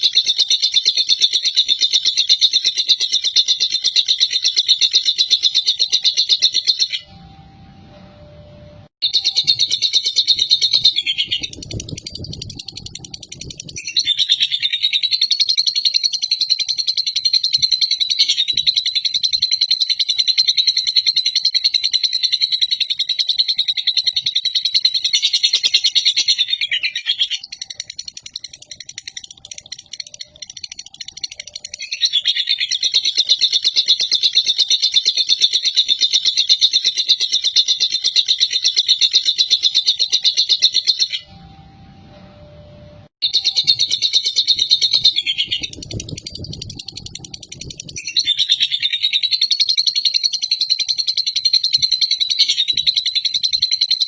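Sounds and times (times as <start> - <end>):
lovebird chattering trill: 0.0 - 7.1, 9.0 - 41.3, 43.2 - 54.0.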